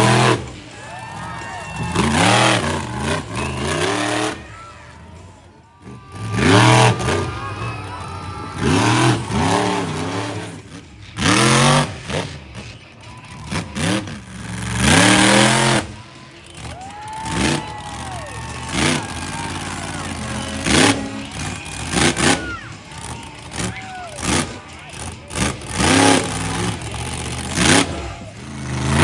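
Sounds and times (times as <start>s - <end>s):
loud exhaust blast: 0.0s - 29.0s
monster truck engine revving: 0.0s - 29.0s.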